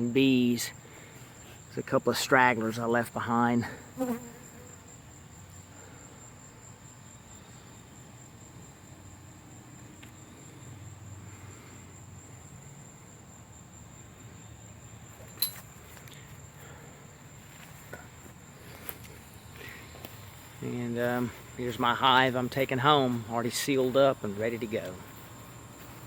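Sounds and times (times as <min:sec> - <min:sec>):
night insects trilling: 0:00.0 - 0:26.0.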